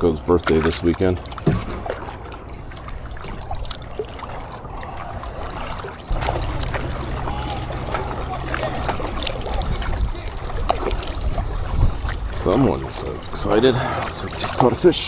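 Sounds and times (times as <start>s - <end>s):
water splashing around paddled kayak: 0.0s - 15.0s
wind buffeting microphone: 1.0s - 15.0s.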